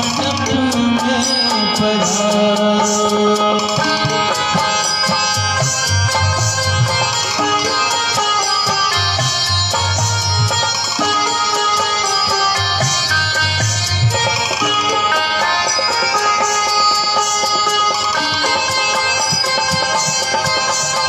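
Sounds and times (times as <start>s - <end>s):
harmonium melody: 0.0s - 21.0s.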